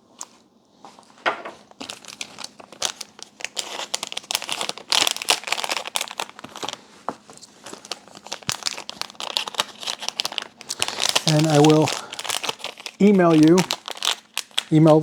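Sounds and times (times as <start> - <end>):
plastic bag crinkling: 1.0 - 15.0.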